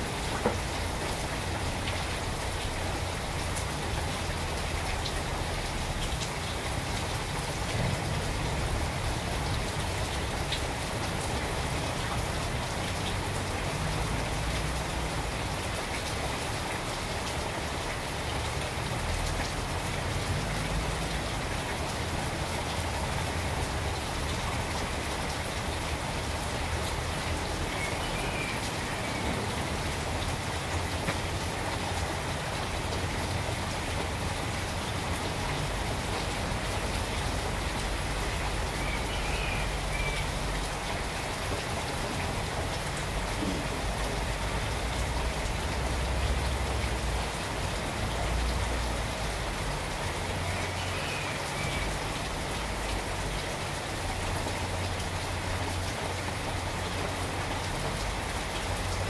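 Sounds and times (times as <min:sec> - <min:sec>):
rain falling on plants: 0:00.0 - 0:59.0.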